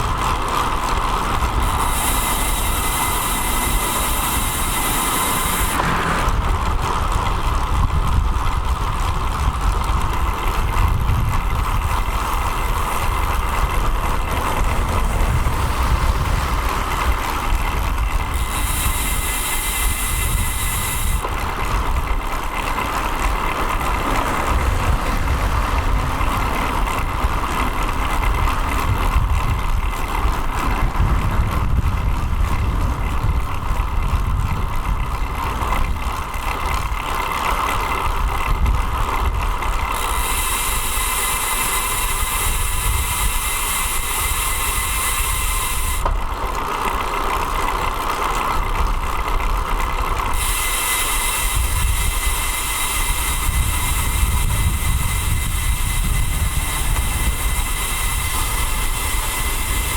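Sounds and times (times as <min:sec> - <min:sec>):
road noise: 0:00.0 - 0:59.9
wind rumble: 0:00.0 - 0:59.9.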